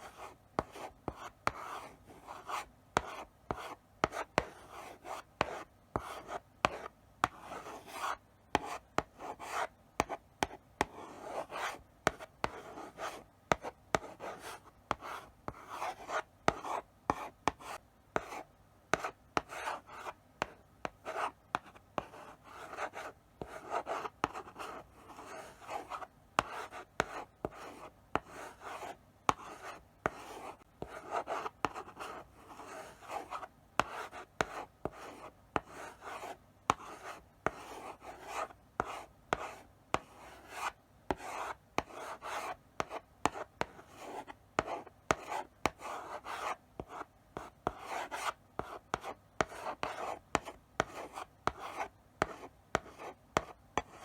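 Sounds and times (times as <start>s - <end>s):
chalk scratching on blackboard: 0.0s - 54.0s
chalk tapping on board: 2.4s - 54.0s.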